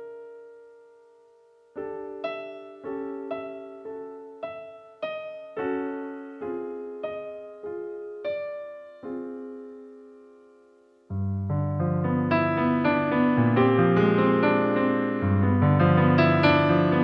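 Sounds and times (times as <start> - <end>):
keyboard playing piano chords: 0.0 - 17.0.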